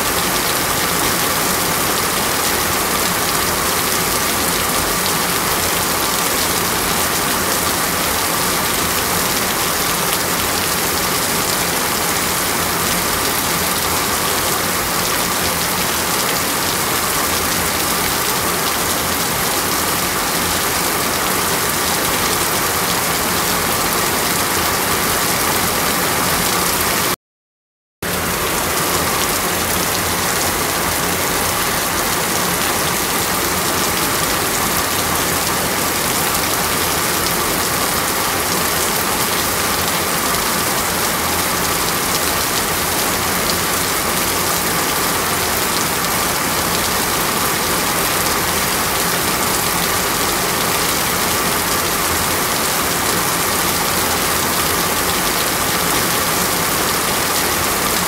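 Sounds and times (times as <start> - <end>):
flowing floodwater: 0.0 - 27.2, 28.0 - 58.0
heavy rain: 0.0 - 27.2, 28.0 - 58.0.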